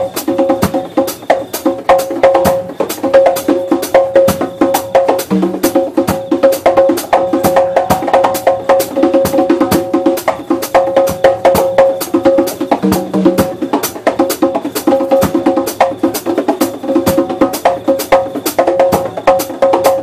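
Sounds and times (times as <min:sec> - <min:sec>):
drum kit playing fast rhythm: 0:00.0 - 0:20.0
steady held pitched tone: 0:00.0 - 0:20.0.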